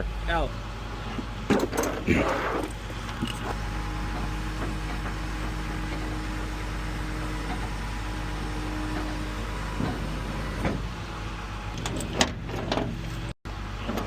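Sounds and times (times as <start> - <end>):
truck engine idling: 0.0 - 13.9.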